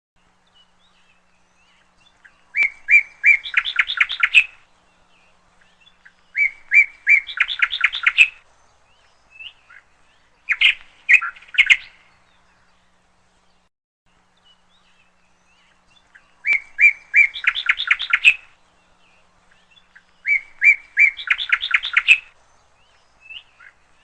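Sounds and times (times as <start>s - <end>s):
songbird chirping: 0.2s - 24.0s.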